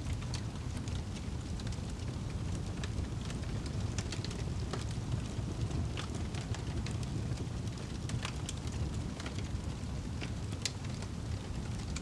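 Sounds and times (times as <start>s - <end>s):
low rumble of burning: 0.0s - 12.0s
wood fire crackling and popping: 0.0s - 12.0s.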